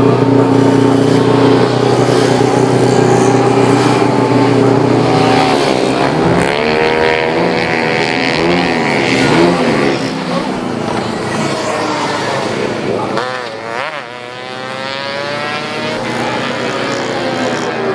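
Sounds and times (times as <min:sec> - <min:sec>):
scooter engine revving: 0:00.0 - 0:17.9.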